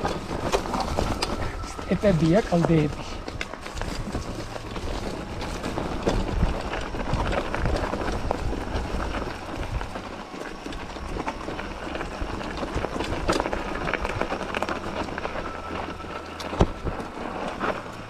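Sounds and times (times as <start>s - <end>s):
bike clattering and rattling: 0.0s - 18.0s
bike tyres crunching on gravel: 0.0s - 18.0s.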